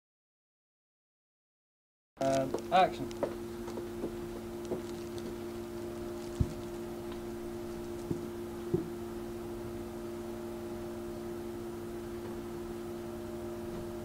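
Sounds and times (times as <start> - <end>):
low hum: 2.2 - 14.0.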